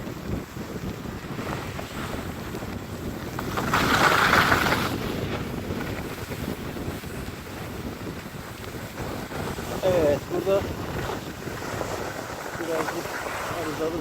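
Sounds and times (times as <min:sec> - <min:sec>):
wind buffeting phone microphone: 0:00.0 - 0:14.0.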